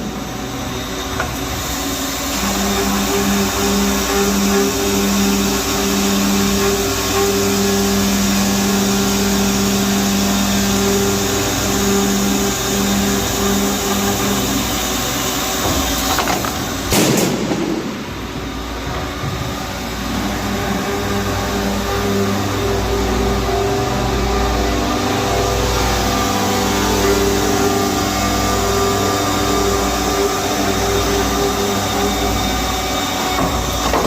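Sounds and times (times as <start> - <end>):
cutting machine hissing: 0.0 - 34.0
low machine hum: 0.0 - 34.0.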